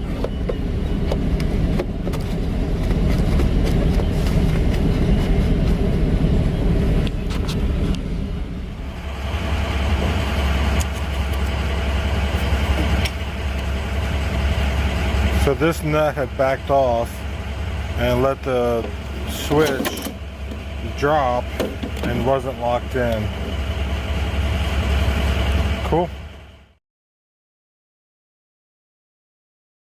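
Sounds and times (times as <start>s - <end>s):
vehicle engine rumbling: 0.0s - 26.8s.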